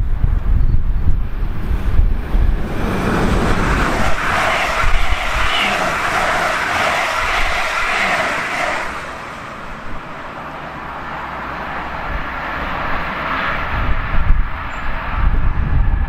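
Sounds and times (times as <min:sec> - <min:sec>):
train running on rails: 0:00.0 - 0:16.0
passenger train passing: 0:01.2 - 0:15.1.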